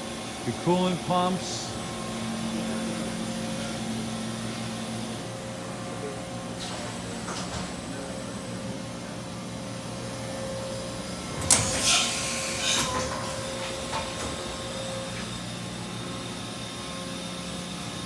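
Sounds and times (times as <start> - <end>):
machining center humming: 0.0 - 18.0.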